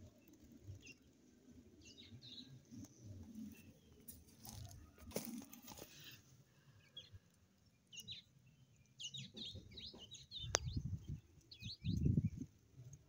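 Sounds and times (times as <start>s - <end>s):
birds chirping: 0.2s - 12.5s.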